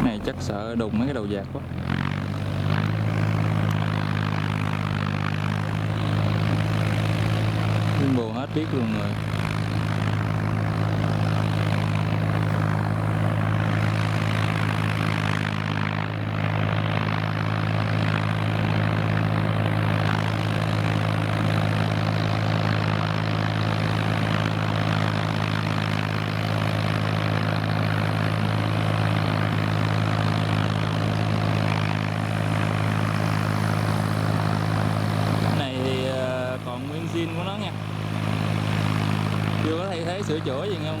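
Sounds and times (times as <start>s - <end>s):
tractor diesel engine drone: 0.0s - 41.0s.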